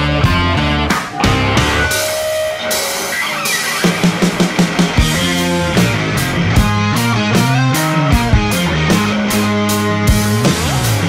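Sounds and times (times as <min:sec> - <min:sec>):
background music: 0:00.0 - 0:11.0
fast repeated low notes: 0:00.4 - 0:11.0.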